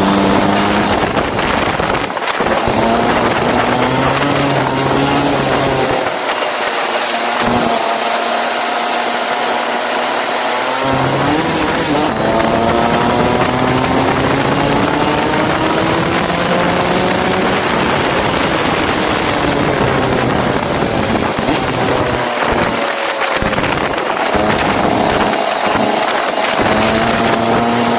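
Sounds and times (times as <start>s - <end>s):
go-kart engine accelerating: 0.0s - 27.9s
wind and wet track hiss: 0.0s - 27.9s.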